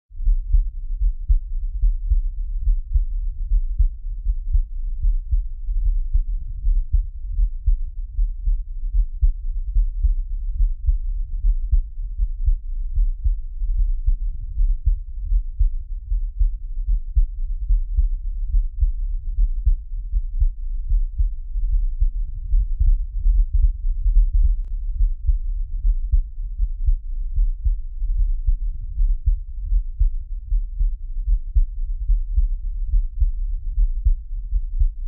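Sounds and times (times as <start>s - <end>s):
fast heartbeat thumps: 0.3s - 35.0s.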